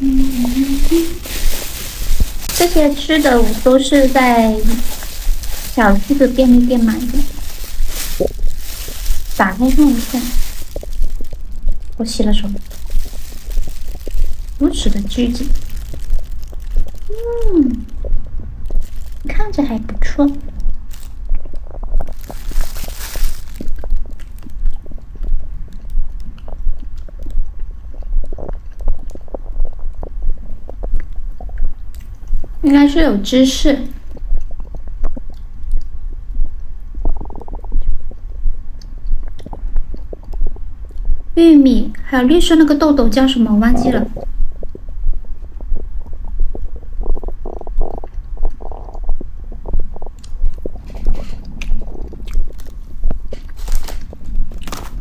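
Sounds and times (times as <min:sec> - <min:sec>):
sharp crackles: 0:00.0 - 0:35.9, 0:38.8 - 0:55.0
low gut rumble: 0:00.0 - 0:55.0
stomach gurgling: 0:00.0 - 0:55.0.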